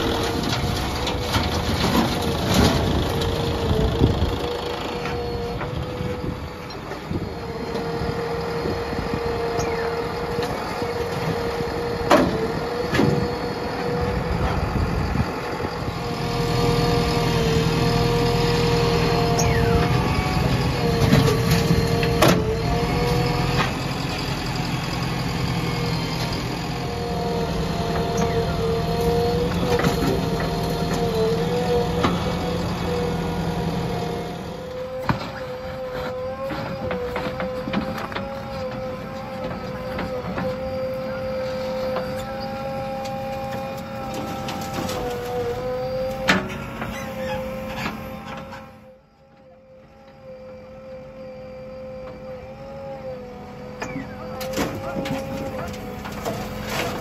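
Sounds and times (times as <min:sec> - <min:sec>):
backhoe digging soil: 0:00.0 - 0:50.2, 0:51.5 - 0:57.0
diesel engine under load: 0:00.0 - 0:57.0
steady whining note: 0:02.6 - 0:56.8.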